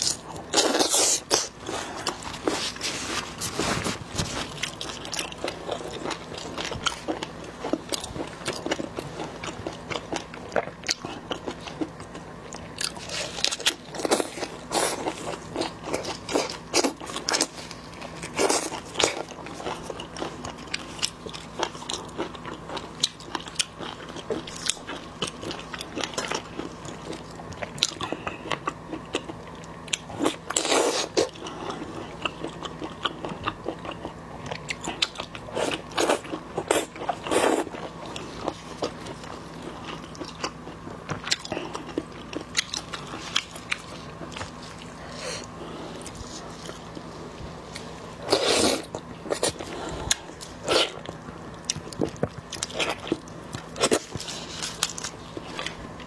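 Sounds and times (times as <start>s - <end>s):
wet chewing and smacking: 4.0s - 56.0s.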